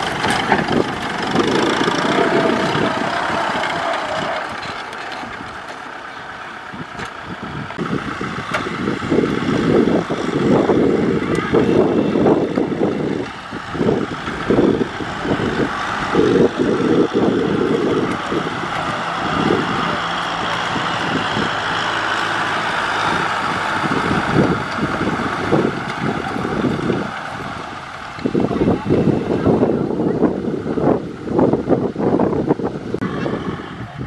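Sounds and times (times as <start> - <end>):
rotary tiller churning soil: 0.0 - 29.6
tractor diesel engine running: 0.0 - 34.0
wind buffeting microphone: 0.0 - 34.0.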